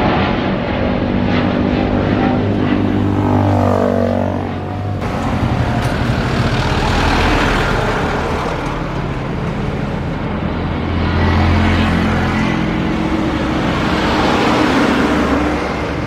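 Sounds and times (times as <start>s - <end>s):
low engine hum: 0.0s - 16.0s
traffic rushing: 0.0s - 16.0s.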